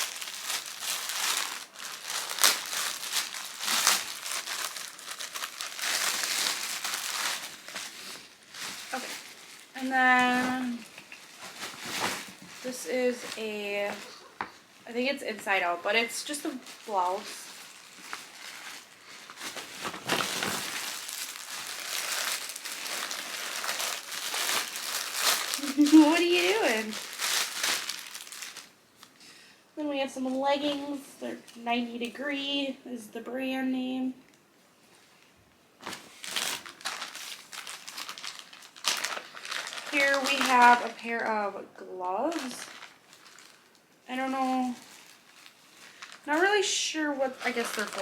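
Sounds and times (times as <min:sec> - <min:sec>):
packaging crinkling and rustling: 0:00.0 - 0:29.2, 0:35.2 - 0:41.6, 0:42.2 - 0:48.0.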